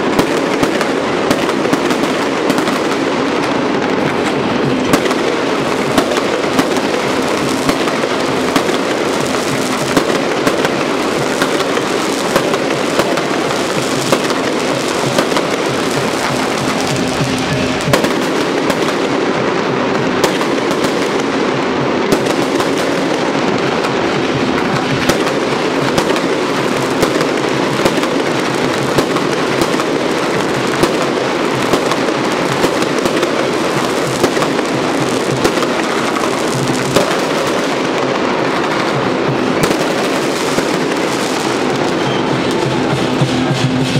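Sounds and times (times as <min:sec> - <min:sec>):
fireworks bursting and crackling: 0:00.0 - 0:43.9
sharp firework bangs: 0:00.0 - 0:43.9.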